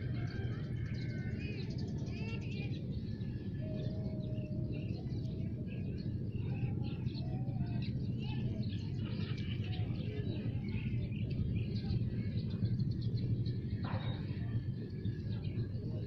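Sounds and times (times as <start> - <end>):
birds chirping and twittering: 0.0 - 16.0
steady low rumble: 0.0 - 16.0.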